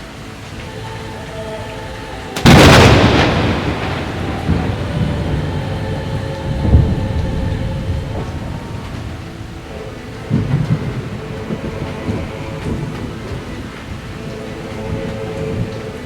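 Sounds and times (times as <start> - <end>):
heavy rain falling: 0.0 - 16.0
thunder rumbling: 0.0 - 16.0.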